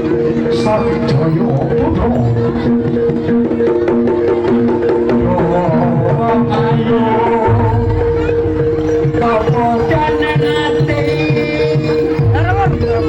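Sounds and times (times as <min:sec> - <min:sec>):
held pitched tones: 0:00.0 - 0:13.0
rapid hand-drum strokes: 0:00.0 - 0:13.0.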